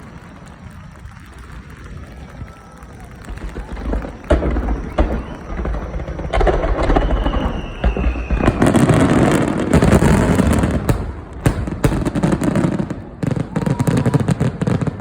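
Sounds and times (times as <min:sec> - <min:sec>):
firework crackle: 0:00.0 - 0:15.0
falling firework whistle: 0:00.1 - 0:15.0
fireworks bursting with booms: 0:01.2 - 0:15.0.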